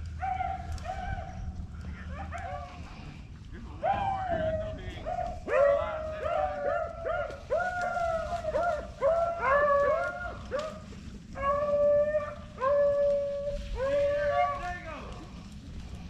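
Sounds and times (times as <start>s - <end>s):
dogs baying: 0.0s - 14.8s
dog howling: 0.1s - 3.1s, 3.8s - 14.7s.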